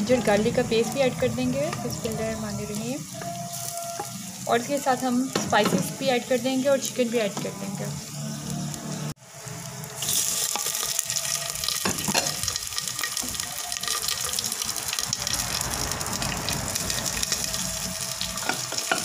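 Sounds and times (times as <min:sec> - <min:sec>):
chicken frying in hot oil: 0:00.0 - 0:19.0.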